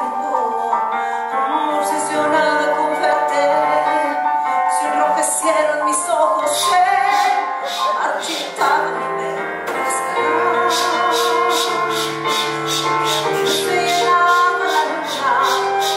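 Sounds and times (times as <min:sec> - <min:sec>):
woman singing slow song: 0:00.0 - 0:12.0, 0:13.4 - 0:15.9
instrumental accompaniment: 0:00.0 - 0:15.9.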